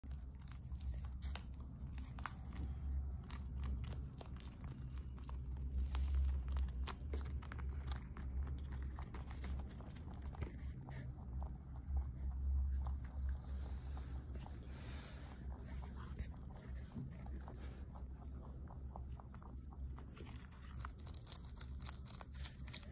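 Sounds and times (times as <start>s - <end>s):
rabbit chewing crisp leaf: 0.0s - 22.9s
steady low hum: 0.0s - 22.9s.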